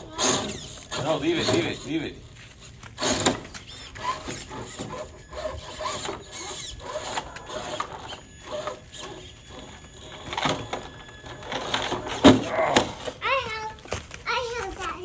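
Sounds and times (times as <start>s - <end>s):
rc car electric motor whining: 0.0s - 13.7s.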